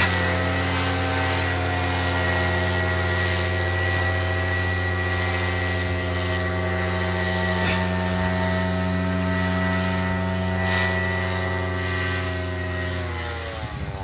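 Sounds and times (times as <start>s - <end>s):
paramotor engine and propeller: 0.0s - 14.0s.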